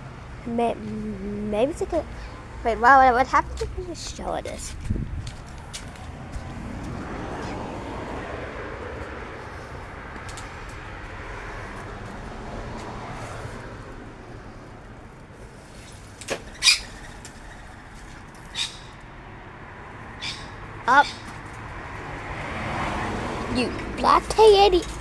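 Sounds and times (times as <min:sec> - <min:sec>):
motor vehicle passing: 0:00.0 - 0:25.0.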